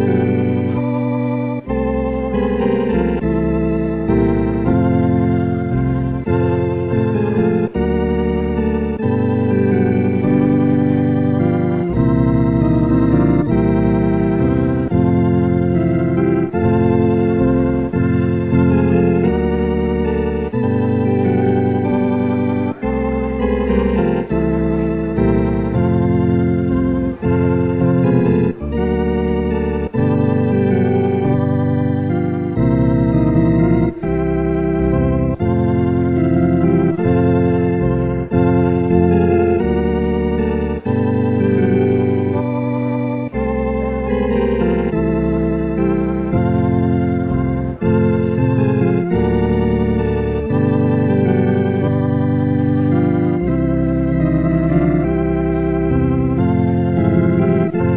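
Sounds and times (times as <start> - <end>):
organ playing sustained chords: 0.0 - 57.9.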